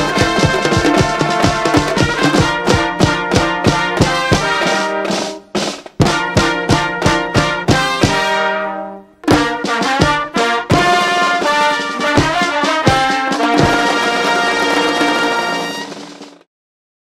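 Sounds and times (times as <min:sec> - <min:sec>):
drum strikes: 0:00.0 - 0:08.5, 0:09.2 - 0:16.5
brass band chords: 0:00.0 - 0:16.5.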